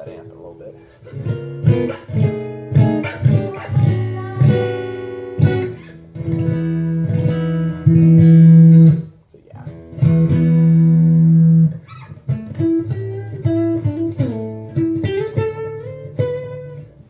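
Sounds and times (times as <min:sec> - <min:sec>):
amplified acoustic guitar chords: 0:00.0 - 0:17.0.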